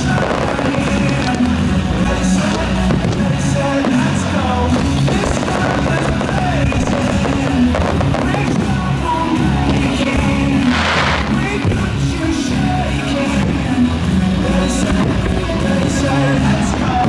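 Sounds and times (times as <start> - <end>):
fireworks bursting: 0.0 - 12.0, 14.4 - 17.0
loud music: 0.0 - 17.0.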